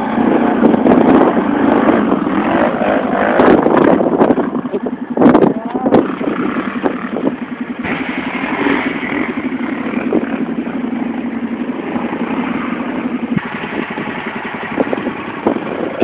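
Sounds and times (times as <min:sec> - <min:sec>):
dirt bike engine: 0:00.0 - 0:16.0
quad bike engine: 0:00.0 - 0:16.0.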